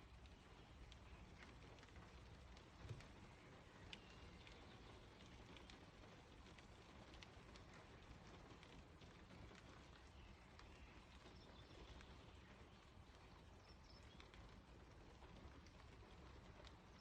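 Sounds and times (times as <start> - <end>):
low rain hiss: 0.0 - 17.0
raindrops ticking on car: 0.0 - 17.0.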